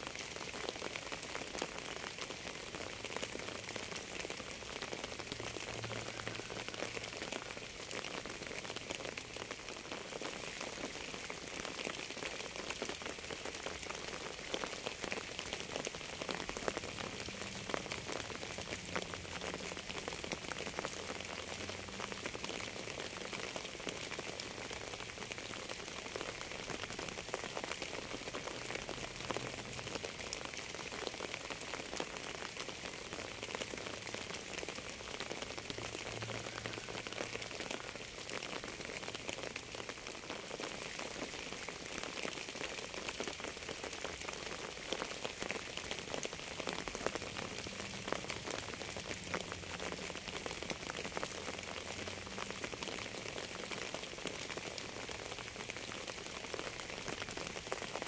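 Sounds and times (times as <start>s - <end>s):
steady rain: 0.0s - 58.0s
raindrops ticking: 0.1s - 58.0s.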